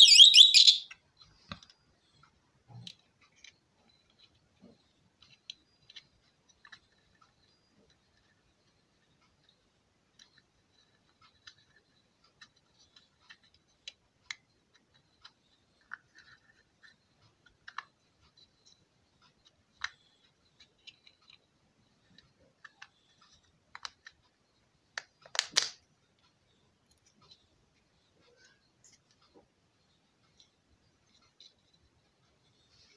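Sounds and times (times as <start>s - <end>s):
small parts clicking and tapping: 0.0s - 32.9s.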